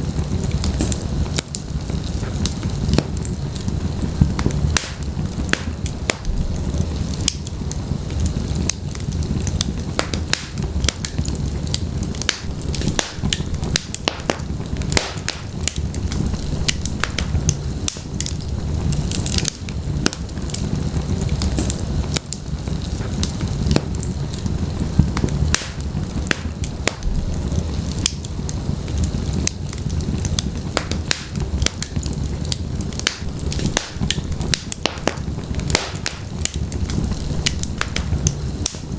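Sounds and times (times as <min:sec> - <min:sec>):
low rumble of flames: 0:00.0 - 0:38.9
wood fire crackles and pops: 0:00.0 - 0:38.9.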